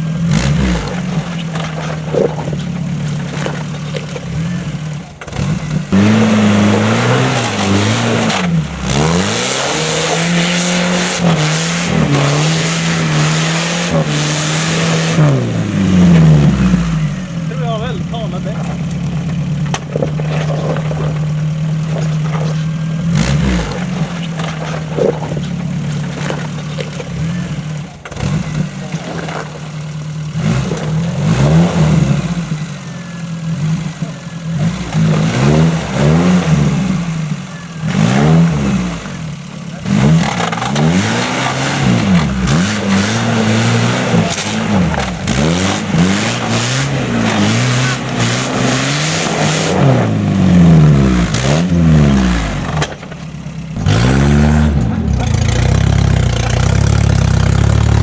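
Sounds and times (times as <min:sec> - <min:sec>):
engine revving: 0:00.0 - 0:58.0.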